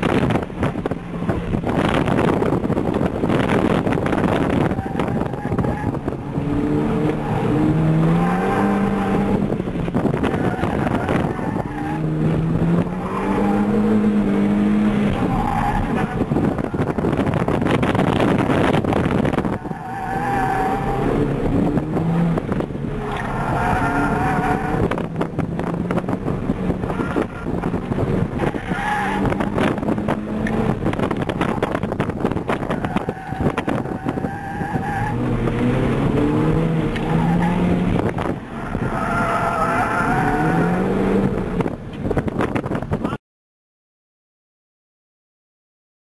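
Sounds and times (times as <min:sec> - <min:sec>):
tires squealing: 0:00.0 - 0:41.3
car engine revving: 0:00.0 - 0:43.0.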